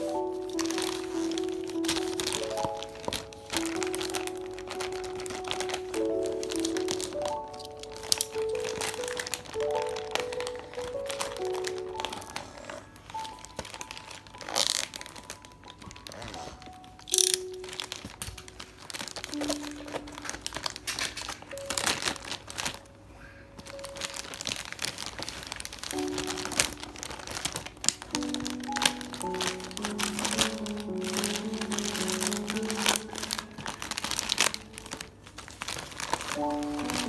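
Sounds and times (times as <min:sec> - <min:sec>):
packaging crinkling and rustling: 0:00.0 - 0:37.0
soft background music: 0:00.0 - 0:37.0.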